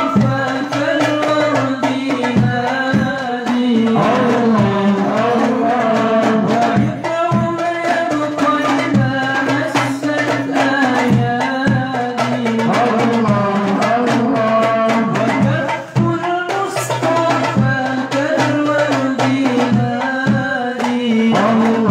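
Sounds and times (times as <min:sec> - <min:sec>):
frame drums beating: 0:00.0 - 0:21.9
voices singing devotional song: 0:00.0 - 0:21.9.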